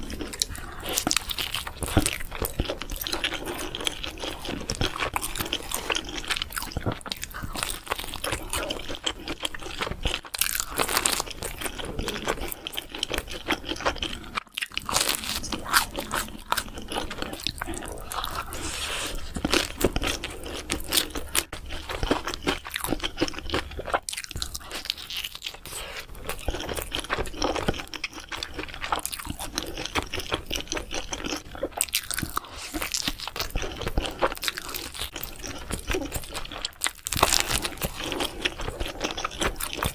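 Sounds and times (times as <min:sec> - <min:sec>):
crunchy food bites and chewing: 0:00.0 - 0:39.9.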